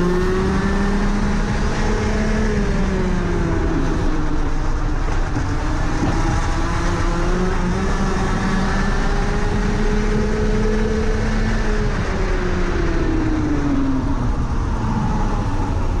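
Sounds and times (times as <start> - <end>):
kart engine at full throttle: 0.0 - 16.0.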